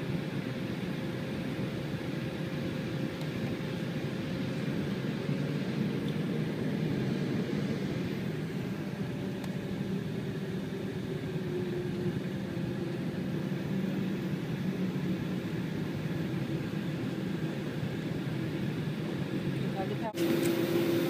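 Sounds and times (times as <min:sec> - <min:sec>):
jet engine hum: 0:00.0 - 0:21.0.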